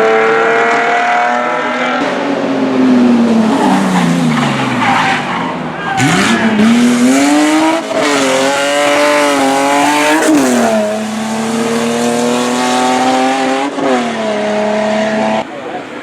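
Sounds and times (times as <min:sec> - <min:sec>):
race car engine revving: 0:00.0 - 0:15.7.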